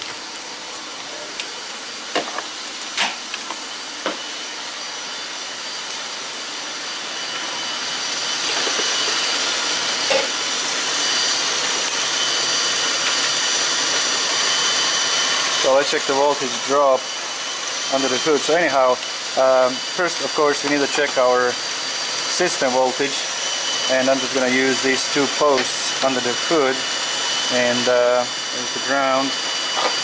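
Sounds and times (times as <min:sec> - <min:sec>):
high engine whine: 0:00.0 - 0:30.0.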